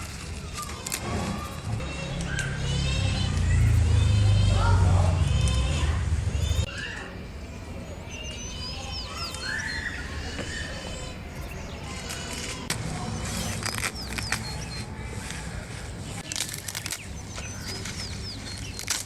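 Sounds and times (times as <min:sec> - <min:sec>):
birds chirping and whistling: 0:00.5 - 0:19.0.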